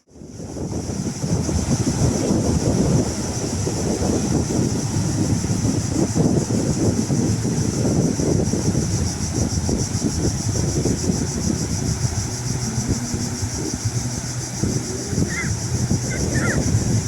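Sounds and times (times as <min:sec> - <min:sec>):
wind buffeting microphone: 0:00.0 - 0:17.0
constant high hiss: 0:00.2 - 0:17.0.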